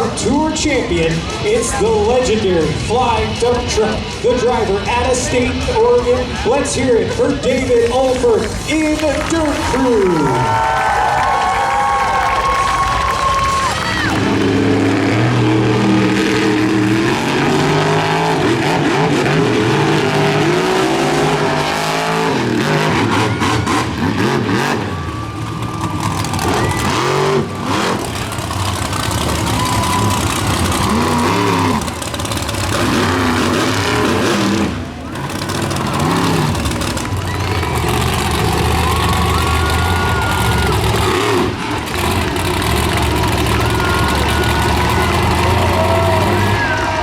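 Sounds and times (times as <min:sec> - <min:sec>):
monster truck engines revving: 0:00.0 - 0:47.0.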